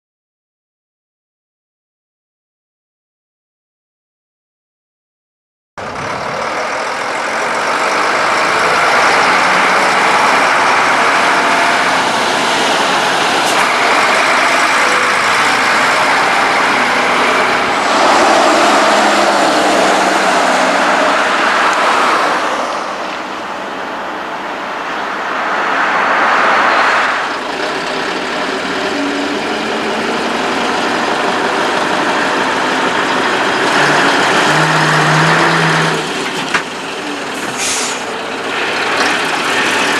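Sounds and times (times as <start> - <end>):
trucks driving past: 5.8 - 39.9.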